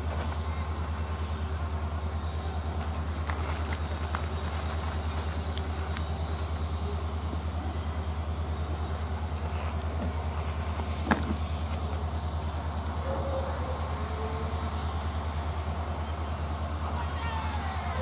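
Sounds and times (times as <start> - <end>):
low pulsing mechanical hum: 0.0 - 18.0.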